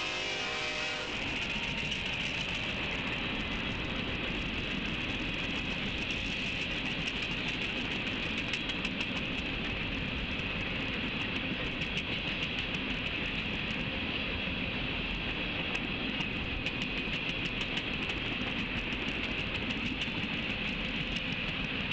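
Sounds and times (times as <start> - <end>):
freight train rumble and hiss: 0.0 - 21.9
train wheels clicking on rail joints: 0.0 - 21.9.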